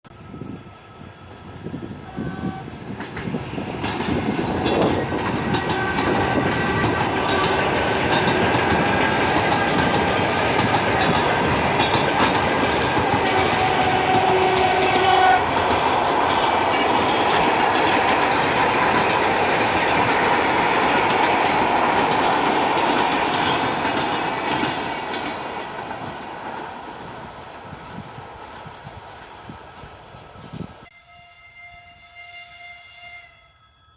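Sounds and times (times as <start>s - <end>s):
train passing: 0.1s - 33.2s.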